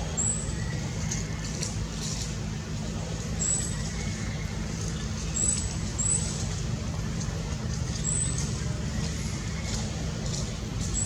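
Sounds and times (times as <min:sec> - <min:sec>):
motor vehicle rumbling: 0:00.0 - 0:11.0.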